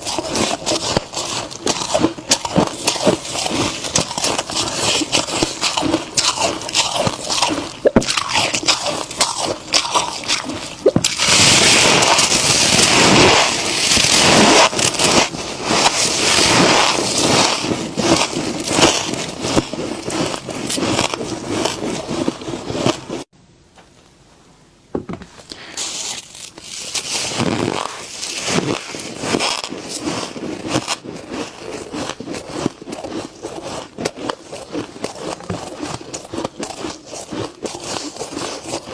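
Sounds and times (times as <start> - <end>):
freezer frost scraping and crunching: 0.0 - 24.0, 25.2 - 38.9.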